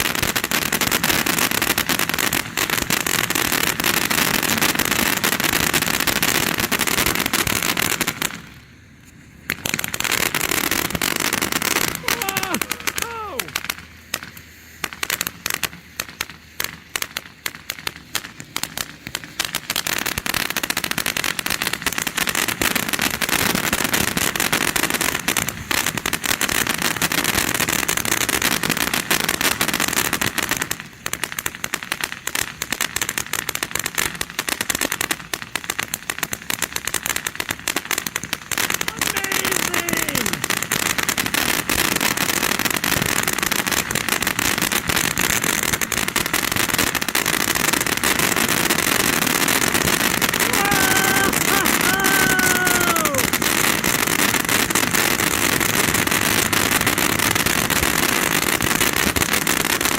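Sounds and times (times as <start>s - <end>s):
firework crackling: 0.0s - 59.9s.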